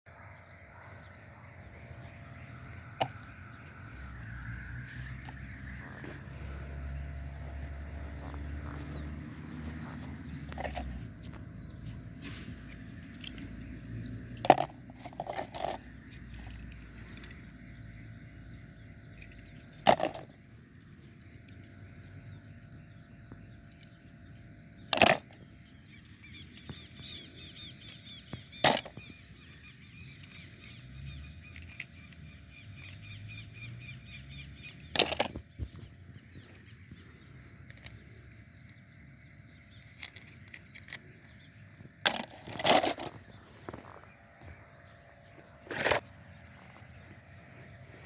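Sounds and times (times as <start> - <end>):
birds calling: 0.1 - 48.0.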